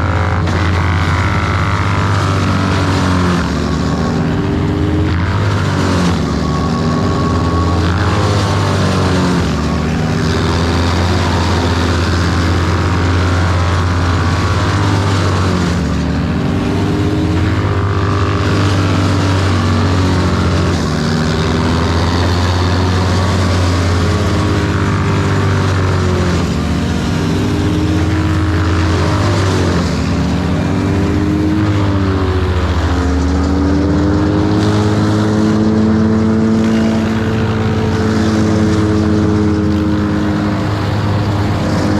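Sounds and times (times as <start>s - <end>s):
large engine revving: 0.0s - 41.9s.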